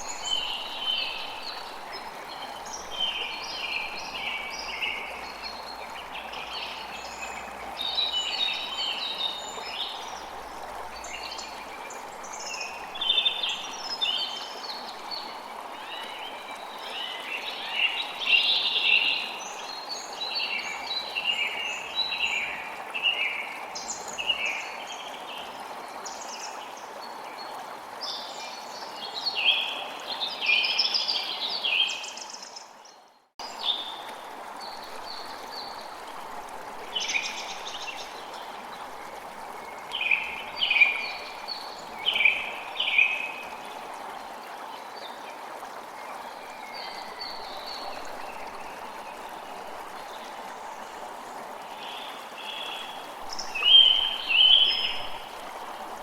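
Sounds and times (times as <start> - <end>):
flowing water rushing: 0.0 - 32.8, 33.4 - 56.0.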